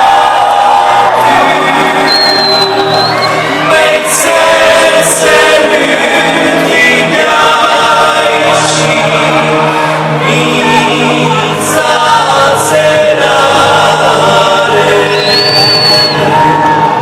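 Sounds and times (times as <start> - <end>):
pop song over loudspeakers: 0.0 - 17.0.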